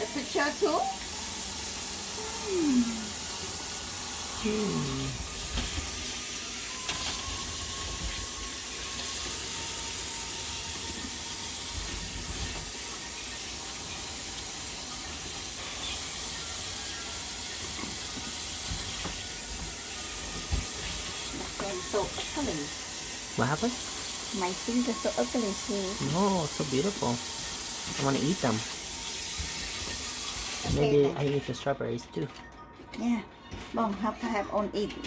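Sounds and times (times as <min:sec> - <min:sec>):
tap water running into sink: 0:00.0 - 0:30.9.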